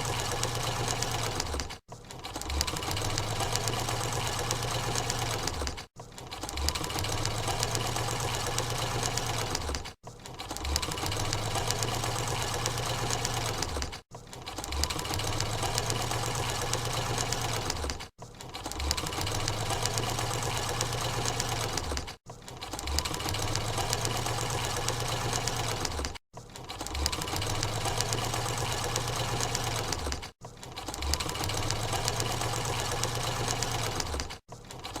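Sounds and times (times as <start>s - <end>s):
electric sewing machine stitching: 0.0s - 35.0s.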